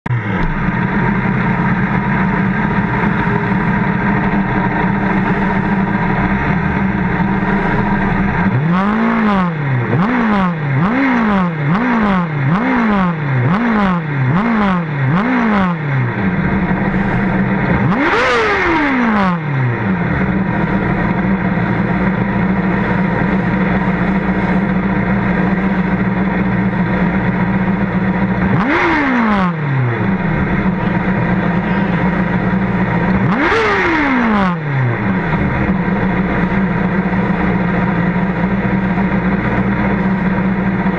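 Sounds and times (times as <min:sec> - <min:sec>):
race car engine idling: 0:00.1 - 0:40.9
race car engine revving: 0:00.1 - 0:40.9.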